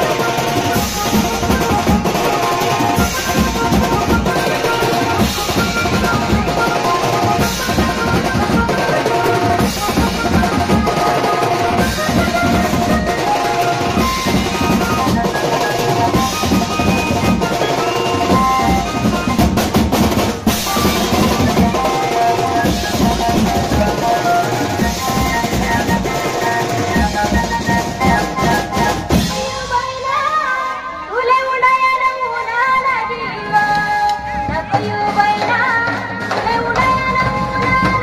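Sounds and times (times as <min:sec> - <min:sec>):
banjo band dance music: 0:00.0 - 0:38.0.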